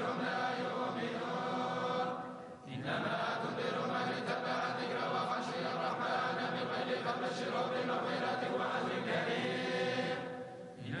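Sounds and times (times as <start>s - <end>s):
voices chanting in chorus: 0.0s - 11.0s.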